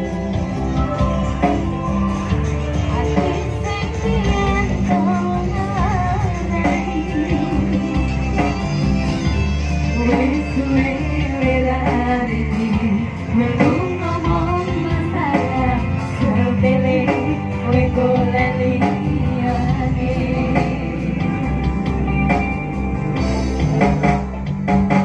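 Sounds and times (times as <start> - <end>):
bass: 0.0 - 25.0
drums: 0.0 - 25.0
keyboard: 0.0 - 25.0
women singing into microphones: 1.0 - 8.9, 9.6 - 22.4.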